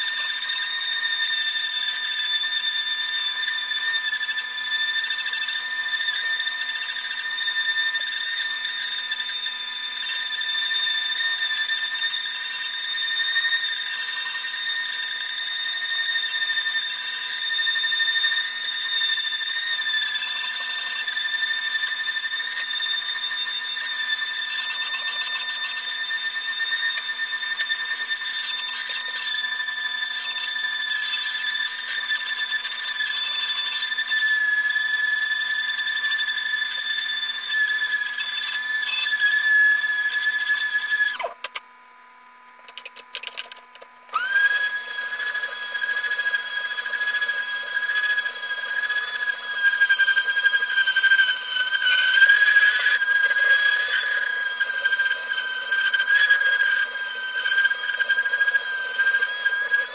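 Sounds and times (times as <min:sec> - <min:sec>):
orbital sander whining: 0:00.0 - 0:41.6, 0:44.1 - 0:59.9.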